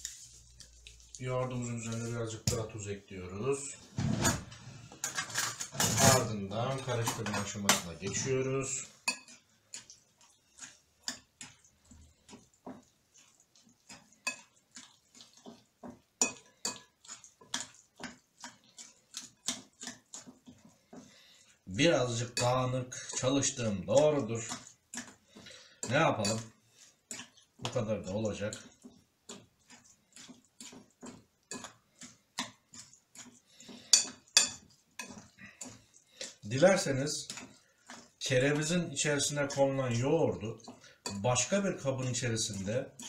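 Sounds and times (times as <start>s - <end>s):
spoon stirring in ceramic bowl: 0.0s - 2.8s, 4.9s - 43.0s.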